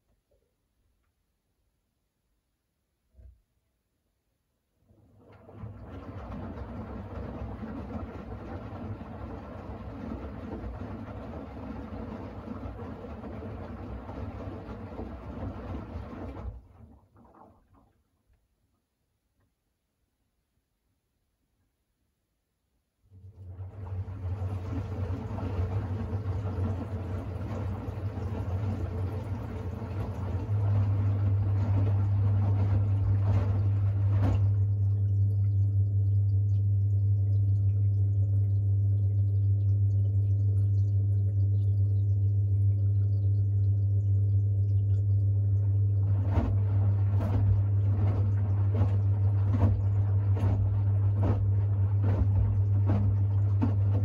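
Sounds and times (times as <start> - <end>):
drain pump humming: 4.8 - 18.7, 23.0 - 54.0.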